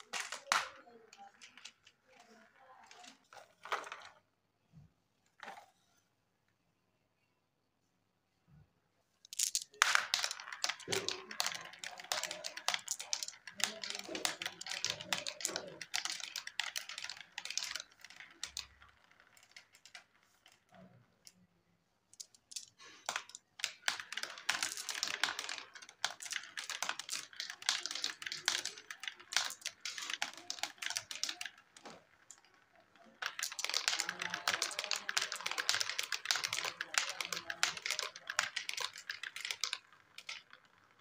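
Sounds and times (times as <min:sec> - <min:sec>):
marbles rolling down plastic track: 0:00.0 - 0:04.2, 0:09.3 - 0:21.5, 0:22.1 - 0:41.0.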